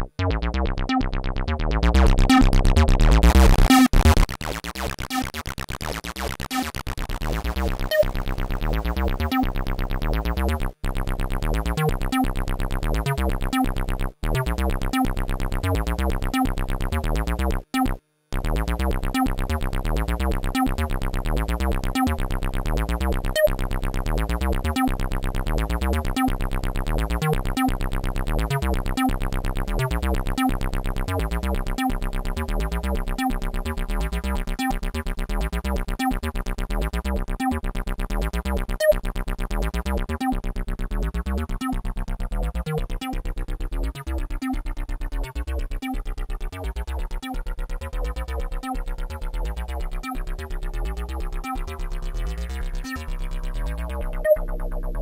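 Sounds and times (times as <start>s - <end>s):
stepping synth bass line: 0.0s - 55.0s
synthesizer sequenced pattern: 0.0s - 55.0s.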